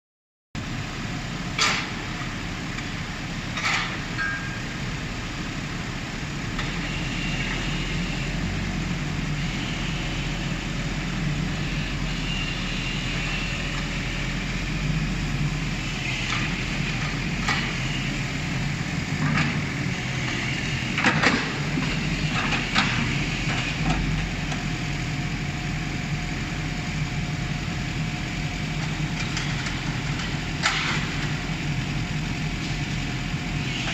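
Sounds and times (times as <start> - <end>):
excavator diesel engine running: 0.6 - 33.9.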